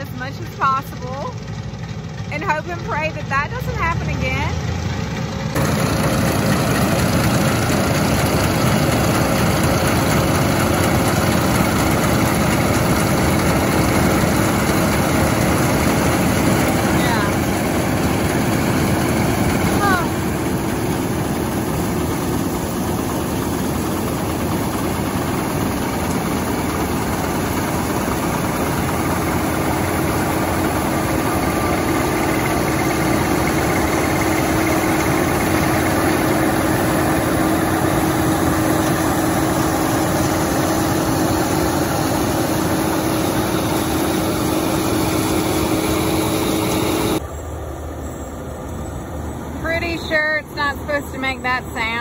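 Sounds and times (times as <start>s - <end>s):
combine harvester drone: 0.0s - 52.0s.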